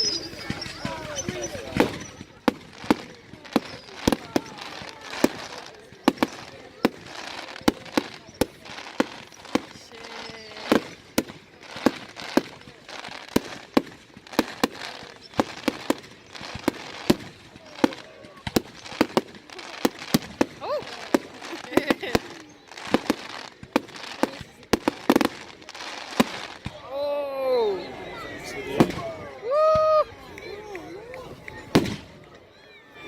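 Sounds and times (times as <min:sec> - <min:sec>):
fireworks bangs: 0:00.0 - 0:27.0, 0:28.5 - 0:30.0, 0:31.4 - 0:32.5
fireworks crackling: 0:00.0 - 0:32.6.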